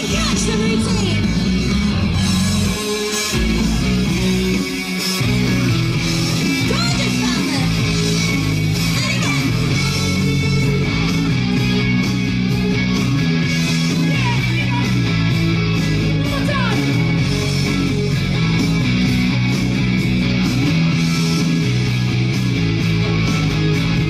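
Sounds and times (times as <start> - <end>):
loud dance music: 0.0 - 24.0.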